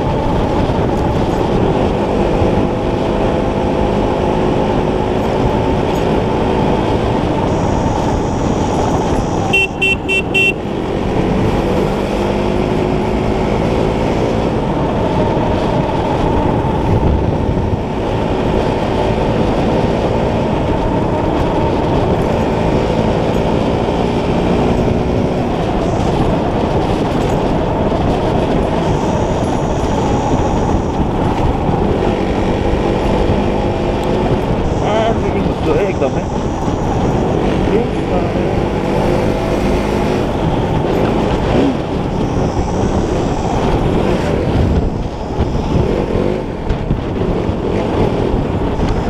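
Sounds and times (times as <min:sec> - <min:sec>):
motorcycle engine cruising: 0:00.0 - 0:49.0
wind on microphone: 0:00.0 - 0:49.0.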